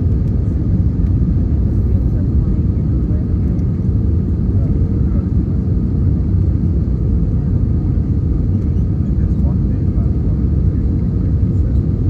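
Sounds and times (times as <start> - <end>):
aircraft cabin engine roar: 0.0 - 12.0.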